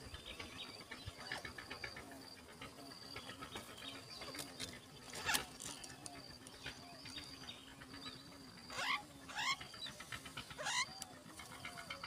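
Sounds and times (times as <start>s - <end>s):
nestlings begging calls: 0.0s - 12.0s.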